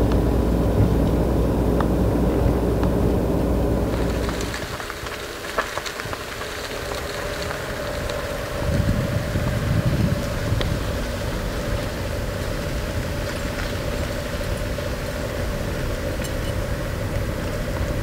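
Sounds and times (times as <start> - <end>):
car engine and road noise: 0.0 - 18.0
constant whine: 0.0 - 18.0.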